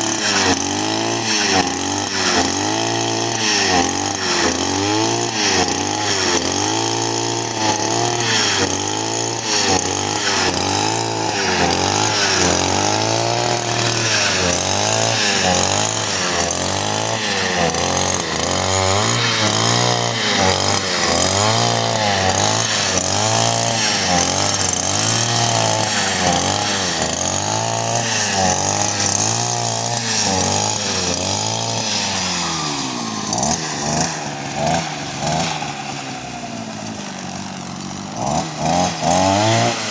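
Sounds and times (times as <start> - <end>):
brushcutter engine revving: 0.0 - 39.9.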